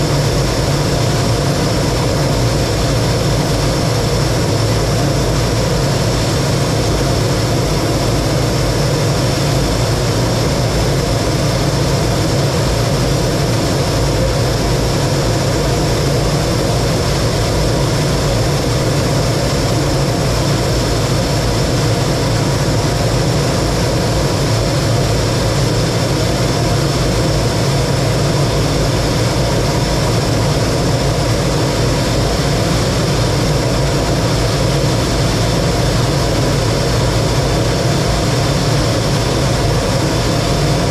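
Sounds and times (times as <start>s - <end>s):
jet engine and airflow noise: 0.0s - 40.9s.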